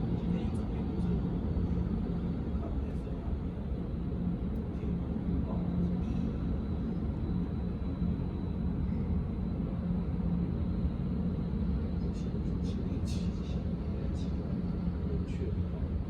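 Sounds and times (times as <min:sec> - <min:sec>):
faint hum: 0:00.0 - 0:16.0
steady low rumble: 0:00.0 - 0:16.0.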